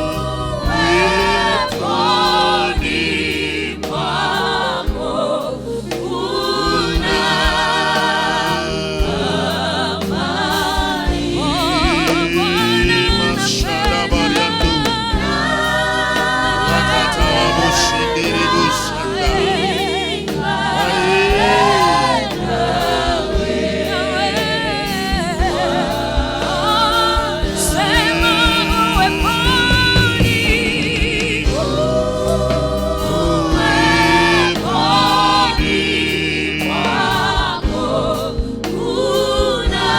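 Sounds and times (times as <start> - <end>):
choir singing with vibrato: 0.0 - 39.9
instrumental backing: 0.0 - 39.9.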